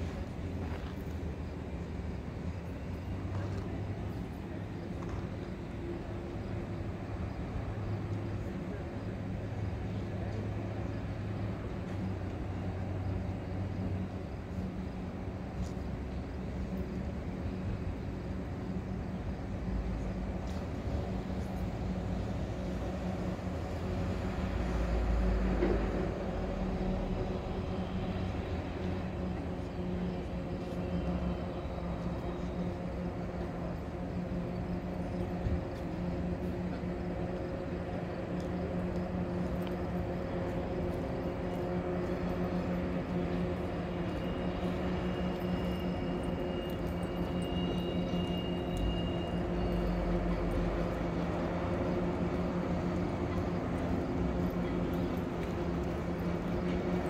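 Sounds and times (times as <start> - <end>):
distant train engine drone: 0.0 - 57.0
low train rumble: 0.0 - 57.0.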